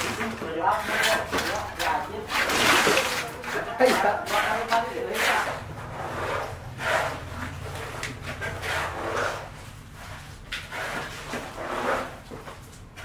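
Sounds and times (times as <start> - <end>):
concrete scraping and rustling: 0.0 - 13.0.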